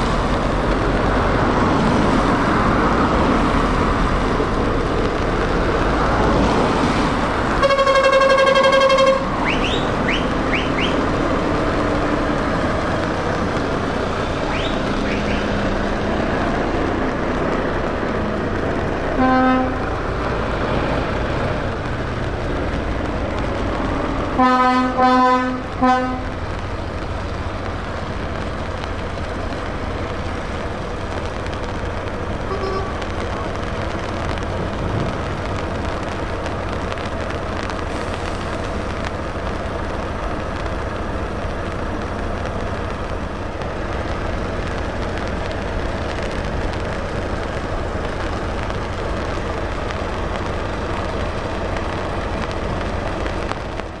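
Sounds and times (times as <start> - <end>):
truck diesel engines rumbling: 0.0 - 54.0.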